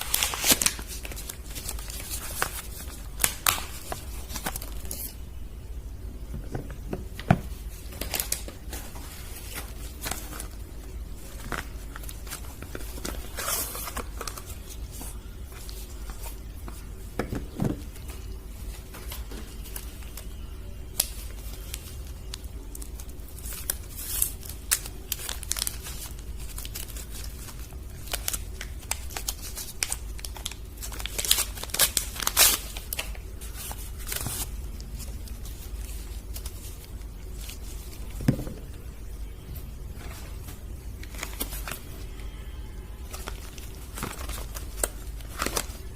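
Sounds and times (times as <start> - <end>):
paper wrappers tearing and crinkling: 0.0 - 5.2, 7.5 - 16.8, 18.0 - 38.2, 39.9 - 42.2, 43.0 - 45.9
faint low hum: 0.0 - 45.9.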